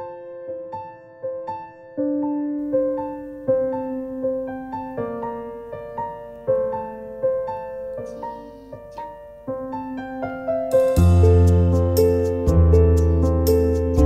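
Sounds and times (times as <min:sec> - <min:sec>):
gentle keyboard melody: 0:00.0 - 0:14.0.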